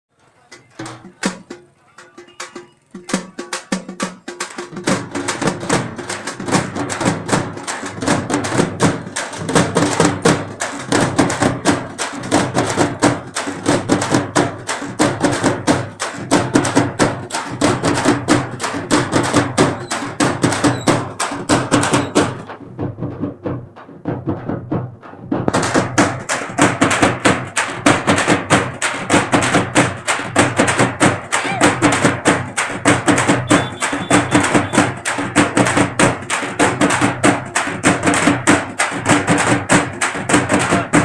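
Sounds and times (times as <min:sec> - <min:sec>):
upbeat music with fast drums: 0:00.2 - 0:41.0.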